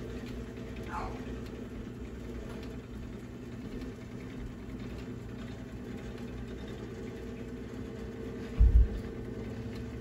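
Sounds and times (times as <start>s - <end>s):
rotisserie motor humming: 0.0s - 10.0s.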